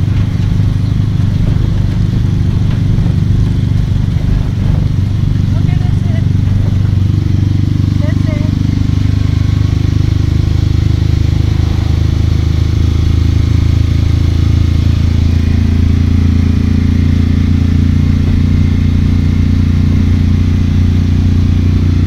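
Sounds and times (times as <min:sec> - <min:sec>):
vehicles rumbling on road: 0:00.0 - 0:22.0.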